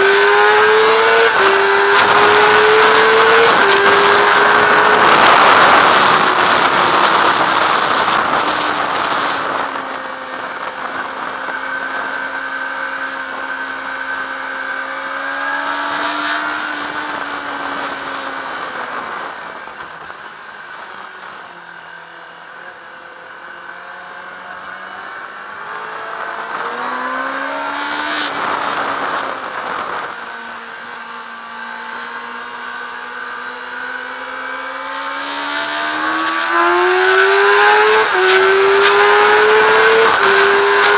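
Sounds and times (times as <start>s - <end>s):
wind rushing over microphone: 0.0s - 22.5s, 24.0s - 40.9s
motorcycle engine revving: 0.0s - 40.9s.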